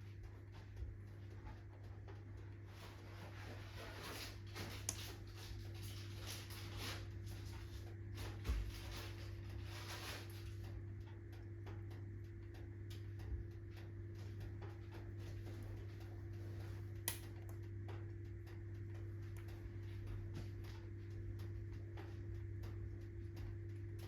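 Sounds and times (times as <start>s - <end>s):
steady low hum: 0.0s - 24.0s
wood fire crackling: 0.1s - 24.0s.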